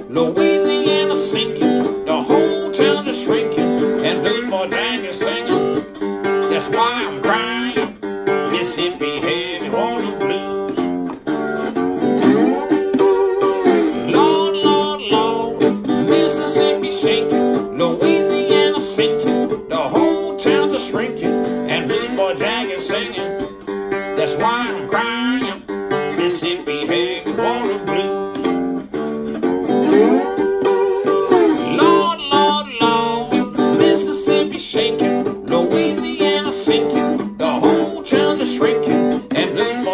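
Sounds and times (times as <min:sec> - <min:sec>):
acoustic guitar blues: 0:00.0 - 0:39.9.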